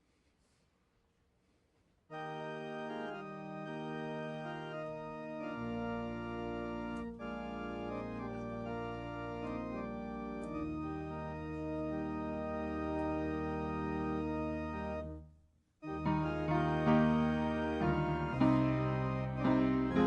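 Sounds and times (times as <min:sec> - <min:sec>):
deep organ bass notes: 0:02.1 - 0:15.2, 0:15.9 - 0:20.0
organ playing chords: 0:02.1 - 0:15.2, 0:15.8 - 0:20.0.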